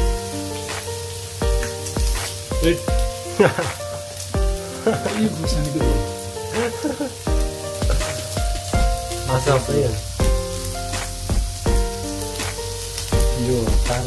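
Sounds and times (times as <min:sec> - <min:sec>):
upbeat synth music with kick drum: 0:00.0 - 0:06.7, 0:07.3 - 0:14.0
meat sizzling on hot plate: 0:00.4 - 0:13.4.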